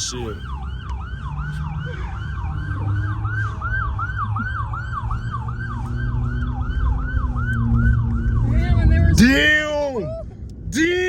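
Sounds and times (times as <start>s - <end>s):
siren yelping: 0.0s - 10.3s
car engine rumble: 0.0s - 11.0s.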